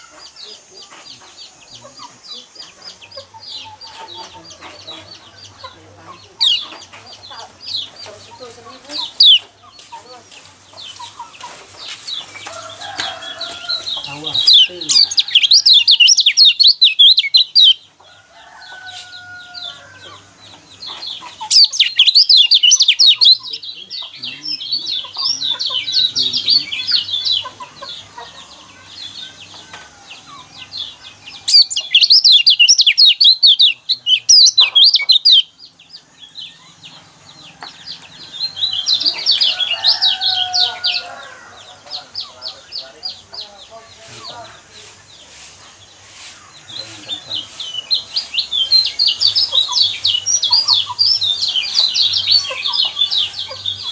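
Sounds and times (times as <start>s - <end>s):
quieter lower bird calls: 0.0s - 53.9s
rapid high bird twittering: 0.0s - 53.9s.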